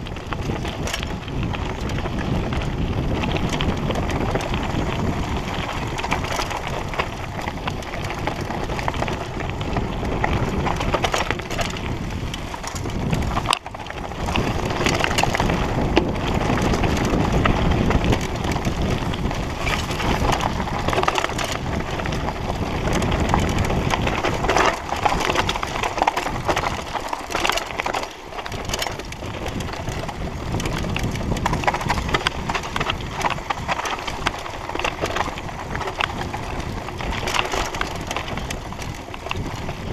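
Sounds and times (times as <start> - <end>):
bike clacking over bumps: 0.0 - 39.9
tyres crunching on stones: 0.2 - 39.9.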